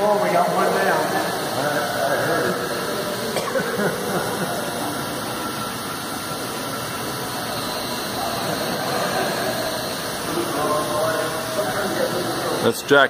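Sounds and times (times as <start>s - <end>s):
model airplane motors whirring: 0.0s - 13.0s.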